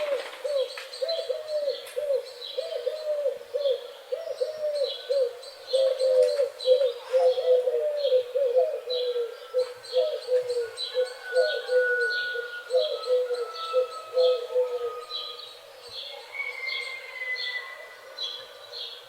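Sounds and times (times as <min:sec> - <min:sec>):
bird cooing notes: 0:00.0 - 0:15.5.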